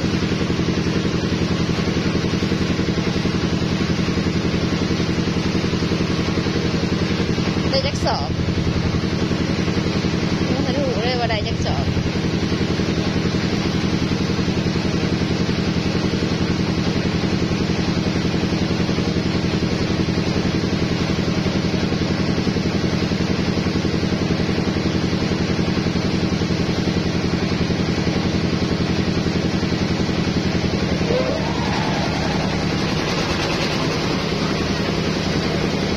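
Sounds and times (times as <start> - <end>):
threshing machine engine running: 0.0 - 35.9.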